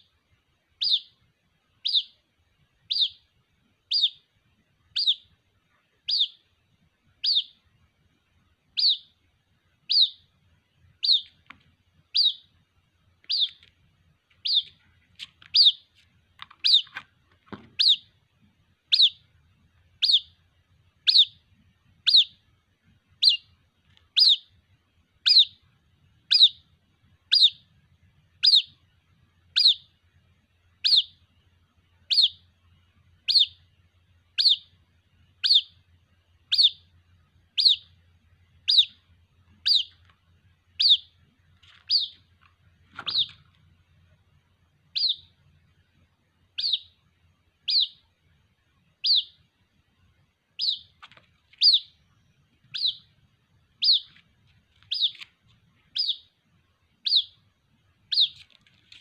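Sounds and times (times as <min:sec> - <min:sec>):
bird chick chirping: 0:00.0 - 0:02.2, 0:02.8 - 0:07.8, 0:08.7 - 0:09.2, 0:09.8 - 0:22.5, 0:23.1 - 0:24.6, 0:25.2 - 0:30.0, 0:30.8 - 0:31.4, 0:32.0 - 0:32.6, 0:33.2 - 0:43.8, 0:44.8 - 0:45.6, 0:46.5 - 0:48.2, 0:48.9 - 0:49.5, 0:50.5 - 0:59.0.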